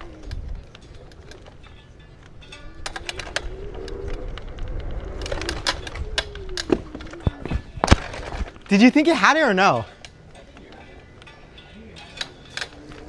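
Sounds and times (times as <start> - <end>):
wheels and deck rattling: 0.0 - 13.0.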